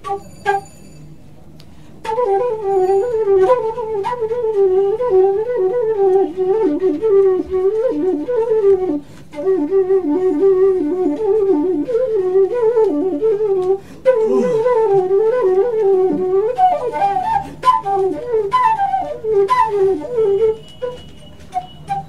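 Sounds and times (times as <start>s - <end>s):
slow ornamented flute melody: 0.0s - 1.2s, 2.0s - 22.0s.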